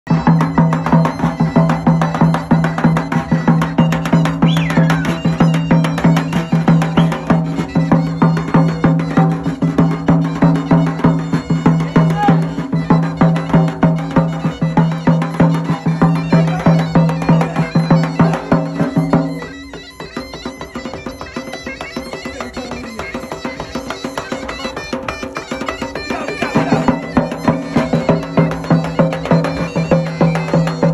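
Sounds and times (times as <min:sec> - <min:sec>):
fast even drumbeat: 0:00.1 - 0:30.9.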